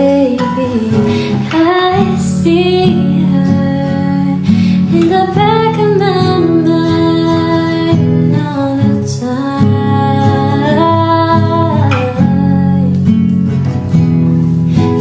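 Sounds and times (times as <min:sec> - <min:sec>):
woman singing slow melody: 0:00.0 - 0:13.2
acoustic guitar: 0:00.0 - 0:15.0.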